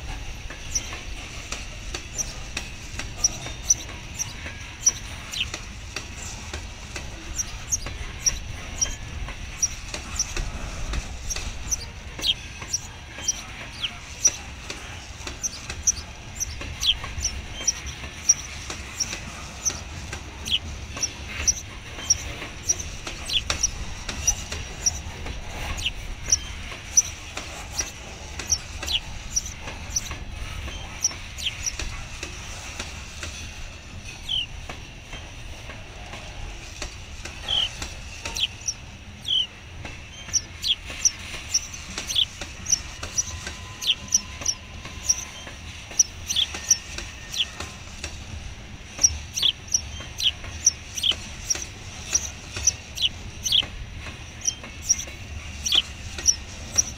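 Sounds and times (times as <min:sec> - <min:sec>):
freight train rumbling: 0:00.0 - 0:56.9
high squeaks: 0:00.0 - 0:56.9
train wheels clicking: 0:00.0 - 0:56.9.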